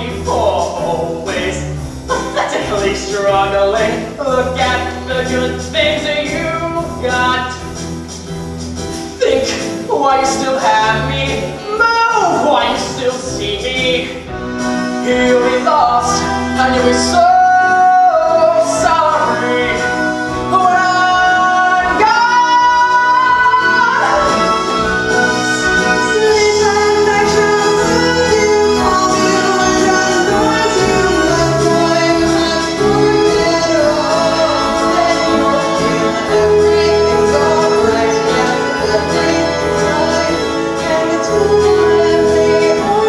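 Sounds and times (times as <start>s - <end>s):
stage musical singing: 0.0s - 43.0s.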